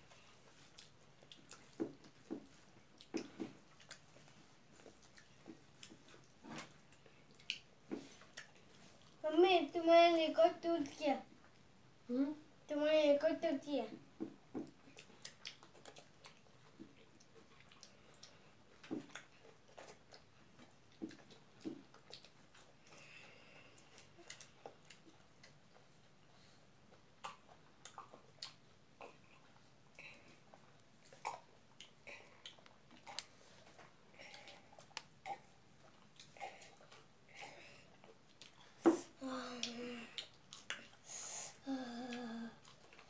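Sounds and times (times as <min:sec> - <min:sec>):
people chewing and eating: 0:00.0 - 0:09.2, 0:13.9 - 0:43.0.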